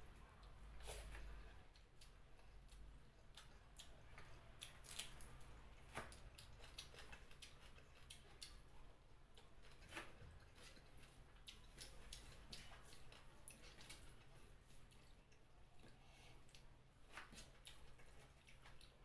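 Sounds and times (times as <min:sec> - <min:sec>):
faint eating sounds: 0:00.0 - 0:19.0.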